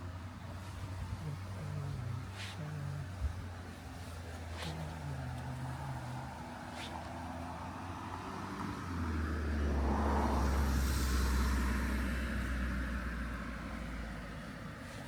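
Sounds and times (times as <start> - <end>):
passing engine rumble: 0.0 - 15.0.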